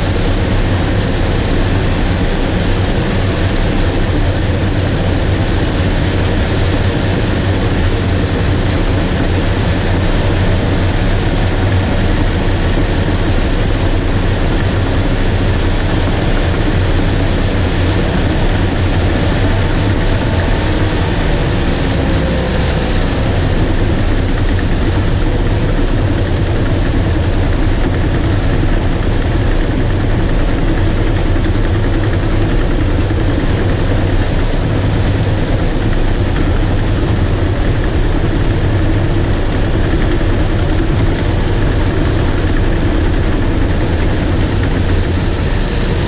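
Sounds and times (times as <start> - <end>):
bulldozer diesel engine droning: 0.0 - 46.0.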